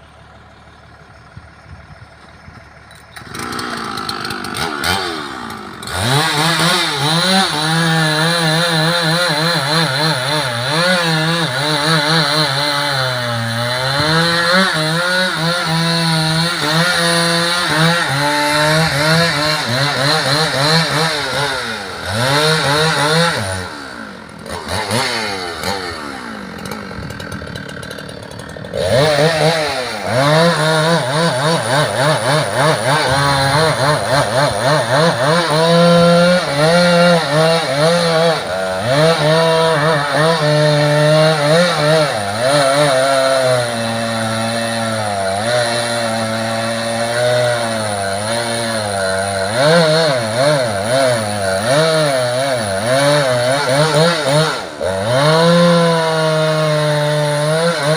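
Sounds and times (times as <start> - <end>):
chainsaw cutting wood: 0.0 - 57.9.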